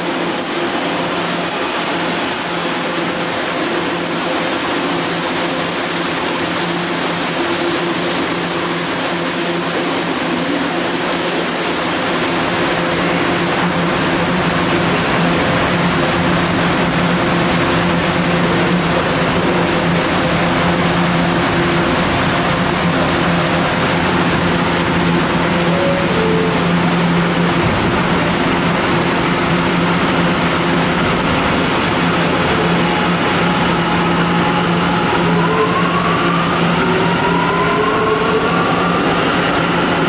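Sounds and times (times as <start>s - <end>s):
subway train hiss and hum: 0.0s - 40.0s.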